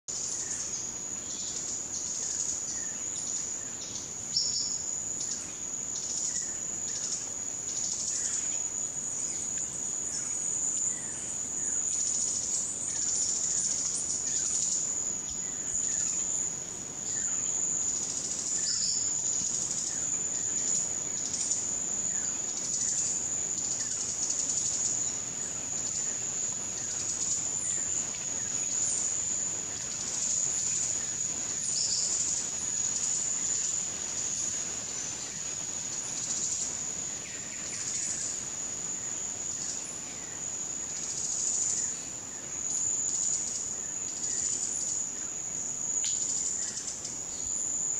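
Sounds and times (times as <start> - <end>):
high-pitched insect drone: 0.2 - 47.9.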